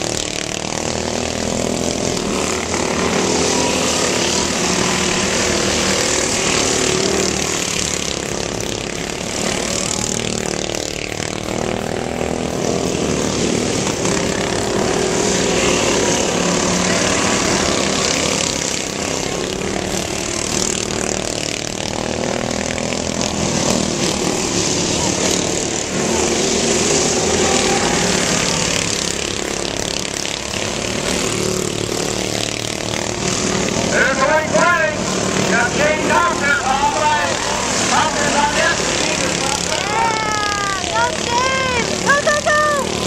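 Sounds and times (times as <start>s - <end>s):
lawn mower engines racing: 0.0s - 43.0s.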